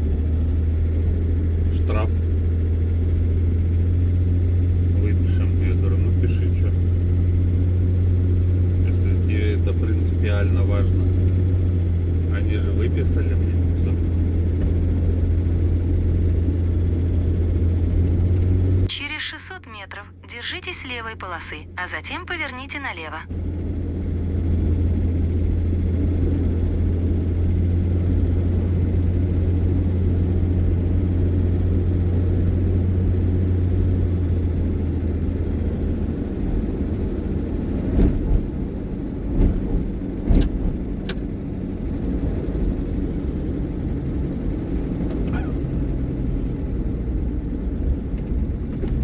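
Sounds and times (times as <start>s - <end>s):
low engine drone: 0.0s - 49.0s
road noise: 0.0s - 49.0s.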